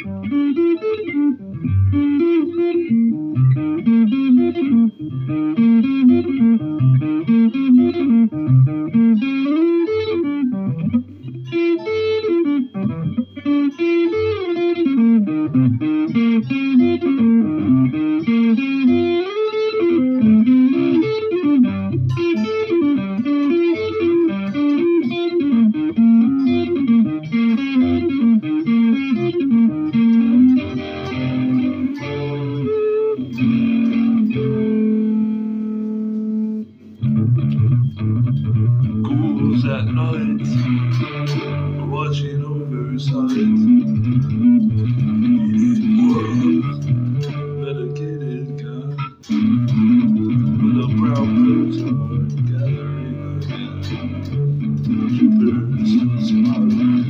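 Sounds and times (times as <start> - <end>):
solo guitar picked notes: 0.0 - 57.0.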